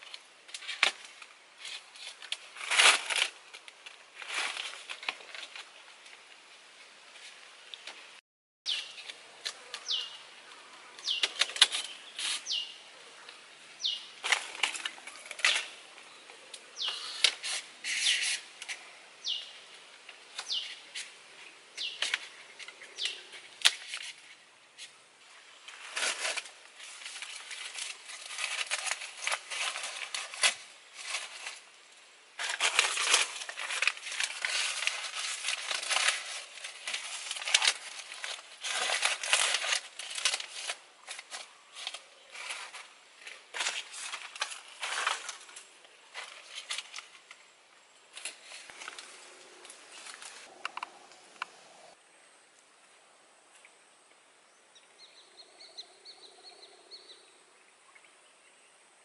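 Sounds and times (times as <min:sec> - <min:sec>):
bamboo rods rustling and tapping: 0:00.0 - 0:52.0
leaves rustling: 0:00.0 - 0:53.8.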